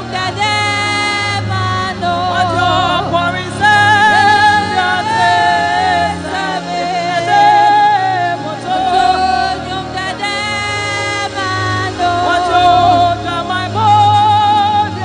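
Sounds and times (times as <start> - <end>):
woman singing gospel song: 0.0 - 15.0.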